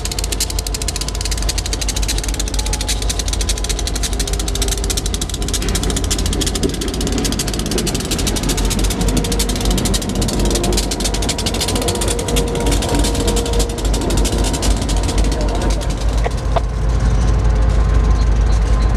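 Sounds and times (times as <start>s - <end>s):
diesel locomotive drone: 0.0s - 18.9s
fast even clatter: 0.0s - 18.9s.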